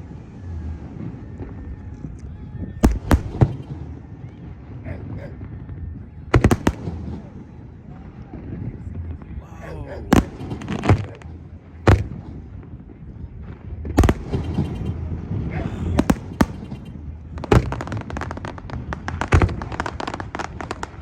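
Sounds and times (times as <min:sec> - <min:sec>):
fireworks crackling: 0:02.8 - 0:08.7, 0:09.7 - 0:21.0
fireworks bangs: 0:02.8 - 0:08.9, 0:09.5 - 0:21.0.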